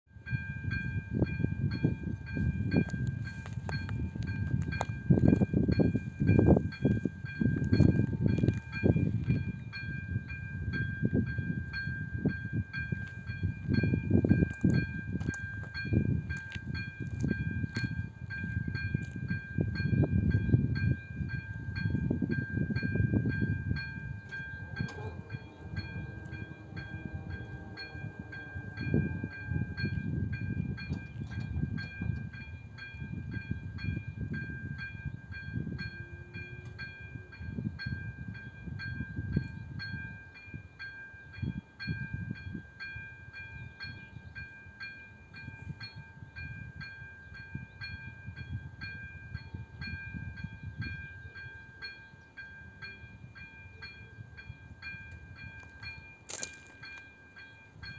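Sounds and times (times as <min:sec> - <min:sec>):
wind rumbling on microphone: 0:00.1 - 0:57.9.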